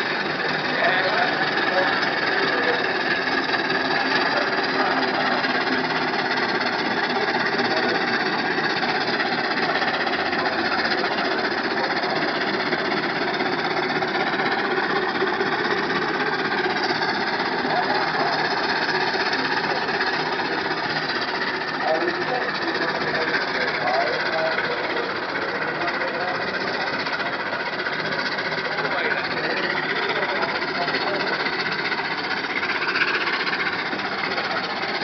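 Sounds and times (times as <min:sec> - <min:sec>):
steam roller engine beating: 0:00.0 - 0:35.0.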